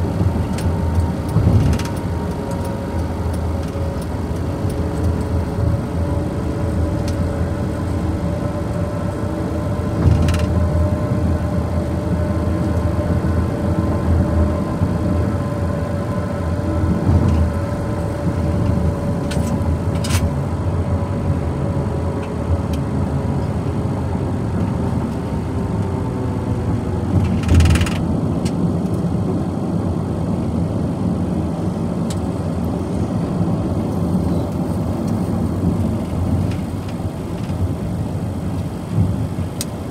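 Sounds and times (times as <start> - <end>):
engine and tyre drone: 0.0 - 39.9.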